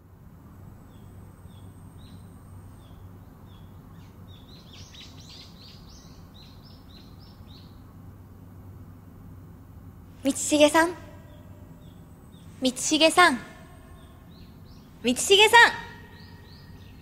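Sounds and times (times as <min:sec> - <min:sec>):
low steady hum: 0:00.0 - 0:17.0
small birds chirping: 0:00.6 - 0:08.1, 0:09.7 - 0:17.0.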